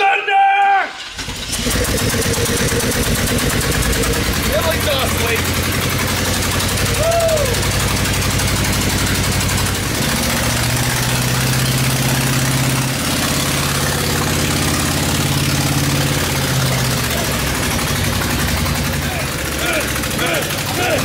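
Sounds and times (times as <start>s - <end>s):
loud engine revving: 1.1s - 21.0s.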